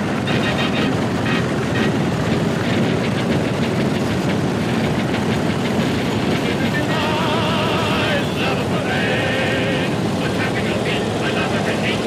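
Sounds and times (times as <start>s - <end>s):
engine running with rattling clatter: 0.0s - 12.0s.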